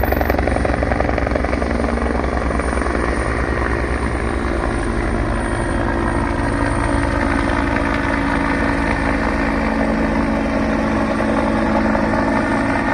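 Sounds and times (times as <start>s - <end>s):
helicopter flying overhead: 0.0s - 12.9s.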